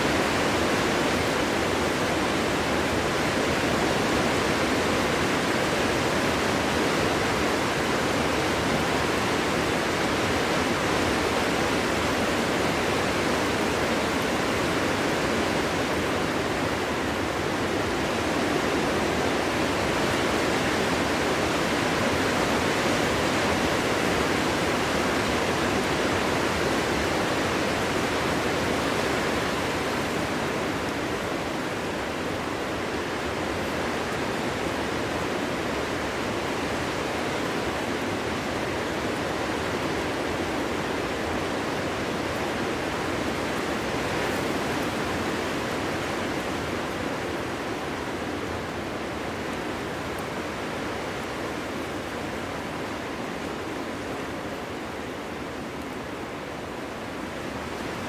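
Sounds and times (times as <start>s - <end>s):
wind blowing through trees: 0.0s - 58.0s.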